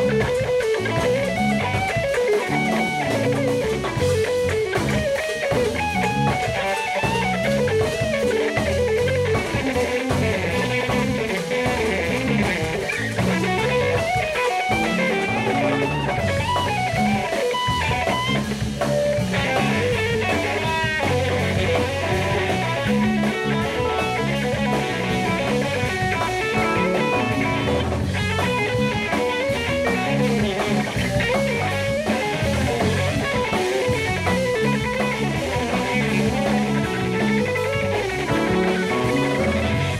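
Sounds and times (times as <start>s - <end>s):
bass guitar: 0.0s - 39.9s
drum kit: 0.0s - 39.9s
electric guitar: 0.0s - 39.9s
keyboards: 0.0s - 39.9s.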